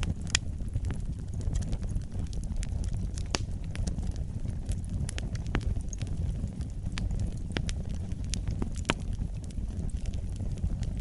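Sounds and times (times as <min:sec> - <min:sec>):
fire crackling and popping: 0:00.0 - 0:11.0
flames rumbling: 0:00.0 - 0:11.0.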